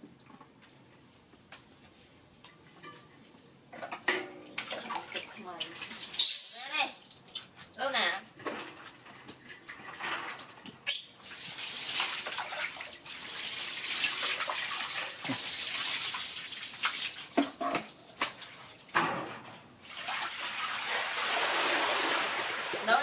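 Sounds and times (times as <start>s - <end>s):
water pouring and splashing: 3.8s - 7.7s, 8.4s - 23.0s.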